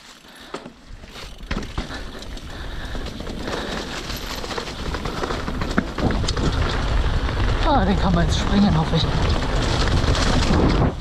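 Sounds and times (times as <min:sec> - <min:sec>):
bike knocking and rattling: 0:00.0 - 0:11.0
bike tyres rushing on dirt: 0:00.0 - 0:11.0.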